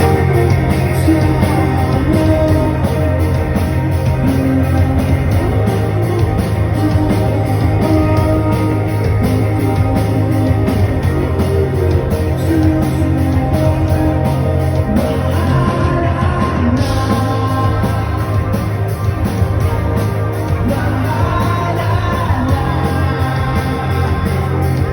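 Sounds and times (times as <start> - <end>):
live rock band playing: 0.0 - 24.9
strong steady bass: 0.0 - 24.9.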